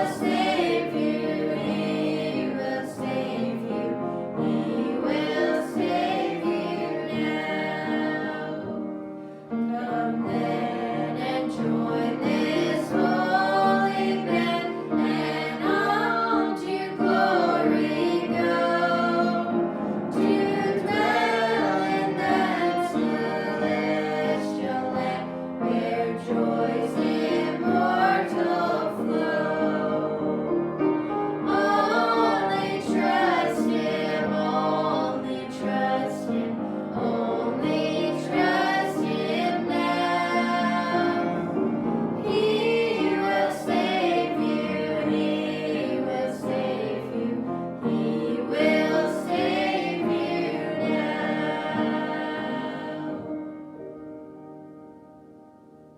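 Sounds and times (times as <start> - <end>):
choir singing a hymn: 0.0 - 54.1.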